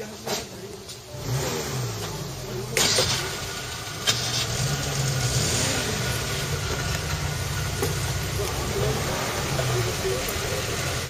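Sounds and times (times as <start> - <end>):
vehicle engine idling: 0.5 - 11.0.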